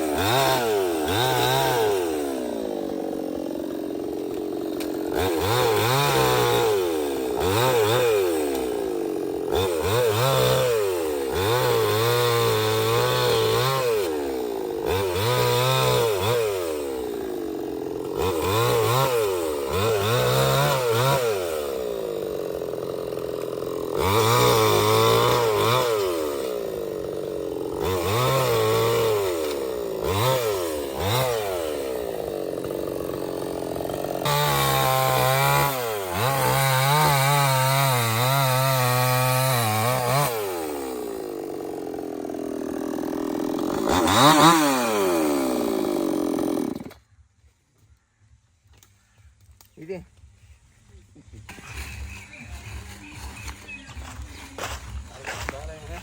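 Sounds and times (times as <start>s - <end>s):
chainsaw cutting wood: 0.0s - 47.1s, 51.4s - 56.0s.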